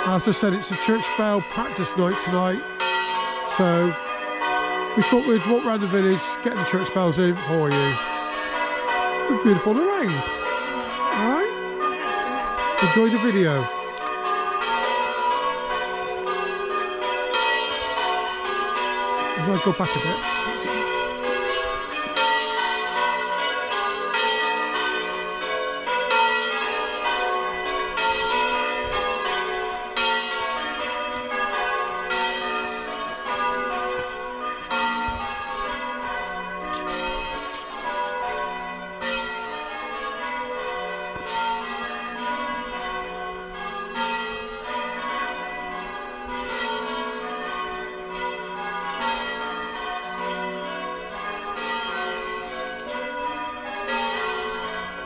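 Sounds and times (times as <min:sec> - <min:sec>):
church bells ringing: 0:00.0 - 0:55.0.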